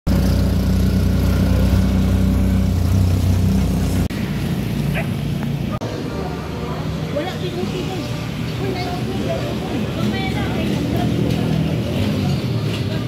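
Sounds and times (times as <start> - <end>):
outdoor background noise: 0.1 - 13.0.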